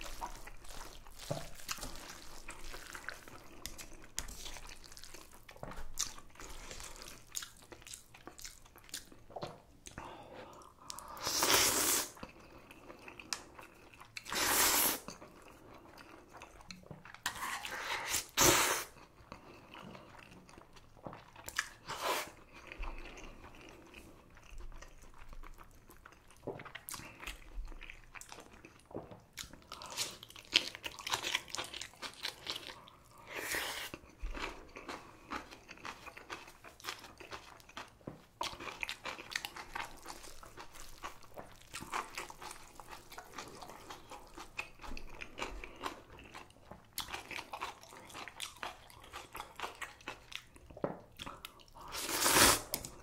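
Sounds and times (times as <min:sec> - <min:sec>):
person chewing crunchy food: 0:00.0 - 0:53.0.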